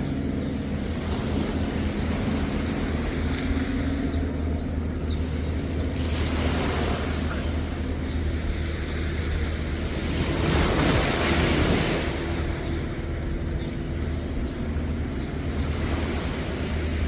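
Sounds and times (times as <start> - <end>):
engine humming: 0.0 - 17.0
surf washing: 0.0 - 17.0
wind: 0.0 - 17.0.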